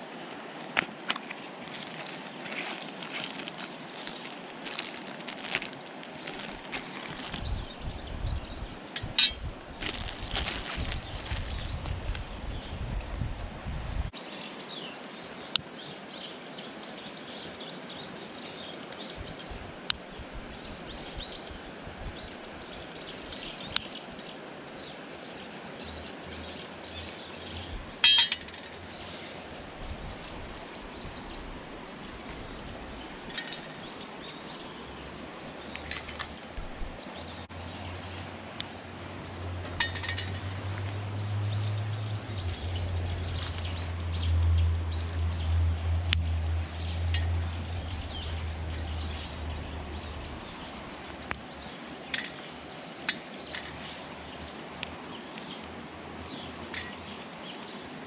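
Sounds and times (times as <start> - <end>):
steady outdoor hiss: 0.0 - 58.0
small birds chirping: 0.3 - 58.0.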